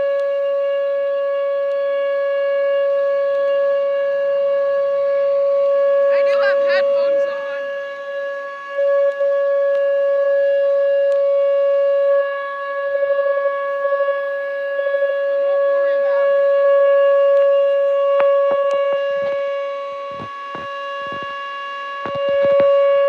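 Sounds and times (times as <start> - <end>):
outdoor warning siren steady tone: 0.0 - 23.0.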